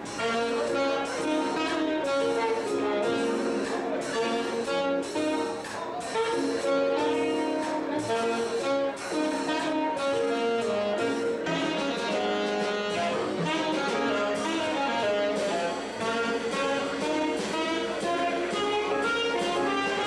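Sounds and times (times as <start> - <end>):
drums: 0.0 - 20.0
keyboard: 0.0 - 20.0
saxophone and trumpet melody: 0.0 - 20.0
upright bass: 0.0 - 20.0.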